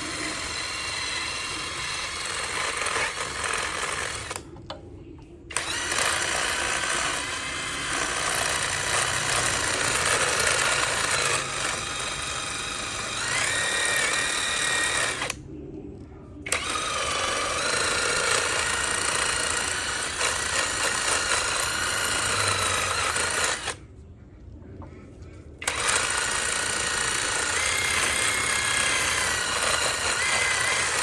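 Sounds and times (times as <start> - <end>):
power tool running under load: 0.0 - 4.4, 5.5 - 15.4, 16.5 - 23.8, 25.6 - 31.0.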